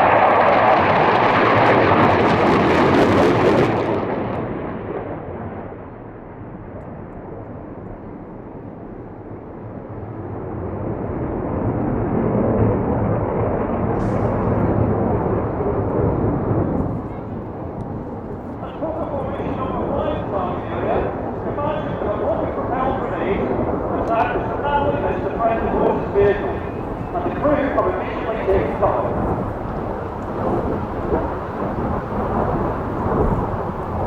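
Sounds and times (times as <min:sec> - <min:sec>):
jet flying past with crackling roar: 0:00.0 - 0:34.0.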